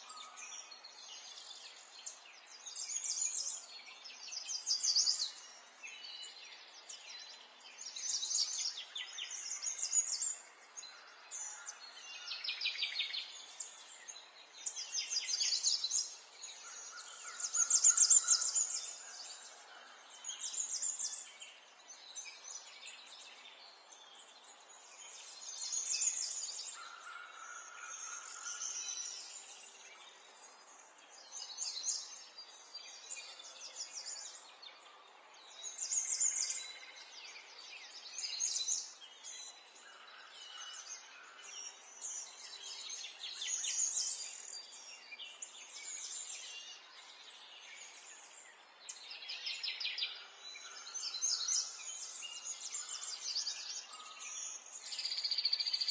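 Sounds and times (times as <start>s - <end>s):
faint background hiss: 0.0s - 55.9s
songbirds singing in chorus: 0.0s - 55.9s.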